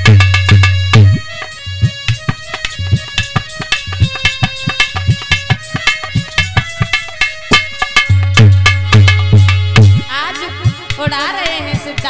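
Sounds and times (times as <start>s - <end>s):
hand drum rhythm: 0.0s - 12.0s
harmonium melody: 0.0s - 12.0s.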